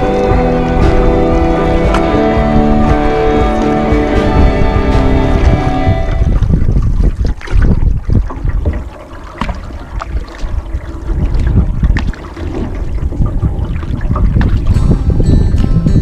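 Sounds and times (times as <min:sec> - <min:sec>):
paddle knocks and splashes: 0:00.0 - 0:16.0
wind rumbling on microphone: 0:00.0 - 0:16.0.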